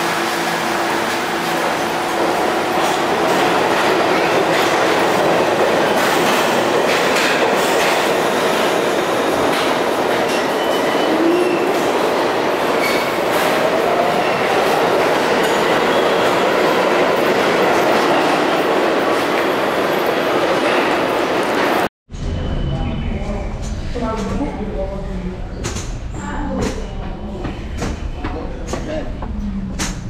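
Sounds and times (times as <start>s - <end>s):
subway train rumbling: 0.0s - 30.0s.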